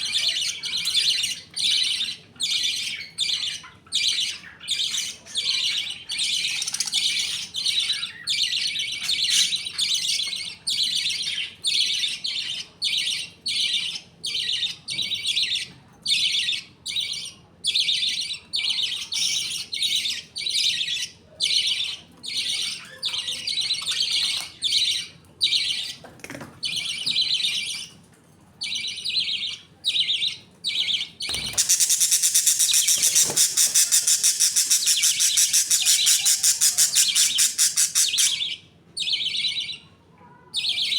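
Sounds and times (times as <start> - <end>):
budgies chirping: 0.0 - 28.0, 28.6 - 40.9.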